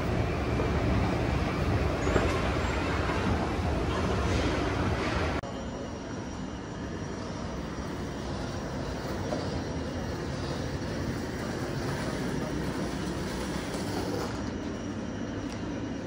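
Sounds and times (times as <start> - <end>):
train hum and rumble: 0.0 - 16.0.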